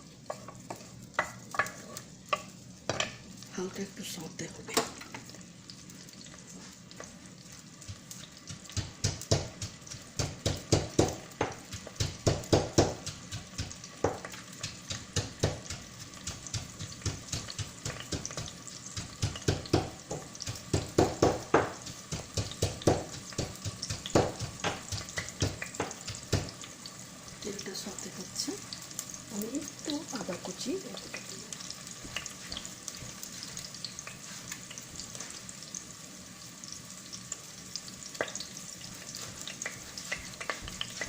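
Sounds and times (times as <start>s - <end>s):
onions sizzling in oil: 0.0s - 41.0s.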